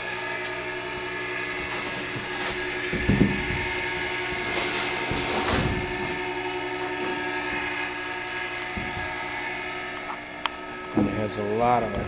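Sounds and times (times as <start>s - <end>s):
dull knocks: 1.5s - 6.6s, 7.3s - 12.0s.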